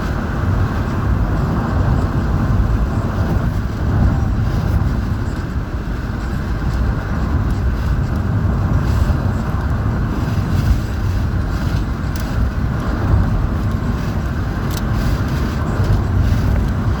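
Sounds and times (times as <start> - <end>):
moving car rumble: 0.0 - 17.0.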